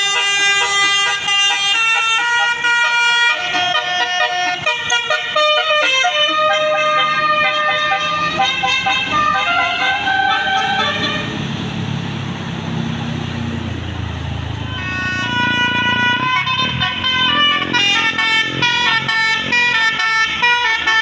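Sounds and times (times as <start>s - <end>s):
bus musical horn playing tune: 0.0s - 11.5s, 14.5s - 21.0s.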